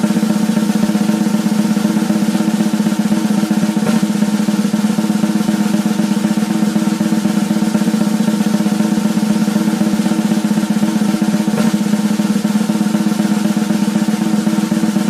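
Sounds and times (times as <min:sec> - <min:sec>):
drum roll: 0:00.0 - 0:15.0.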